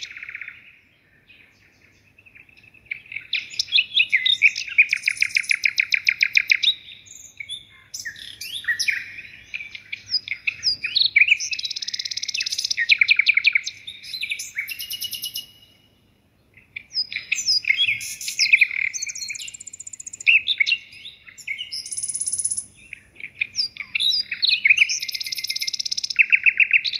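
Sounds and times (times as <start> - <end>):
songbird trilling and chirping: 0.0 - 26.9.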